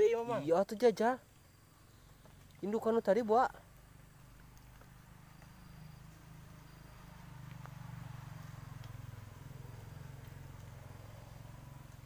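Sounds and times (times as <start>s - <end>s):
faint ticks: 0.6s - 2.8s, 3.7s - 12.0s.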